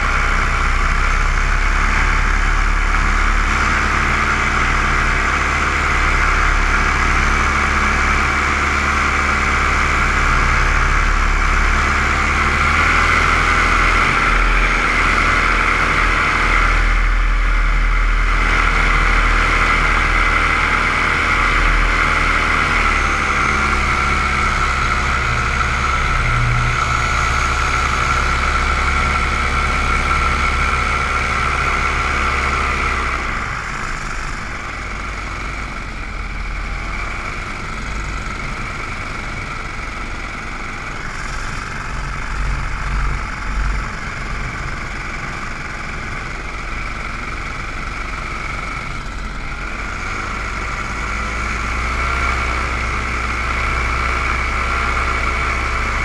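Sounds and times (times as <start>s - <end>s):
drone propellers buzzing whine: 0.0s - 56.0s.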